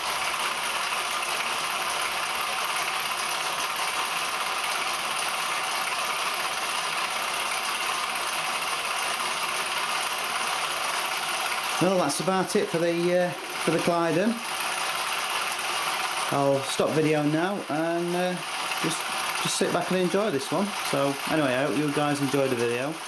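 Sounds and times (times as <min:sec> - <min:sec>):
toy steam engine rattling: 0:00.0 - 0:23.0.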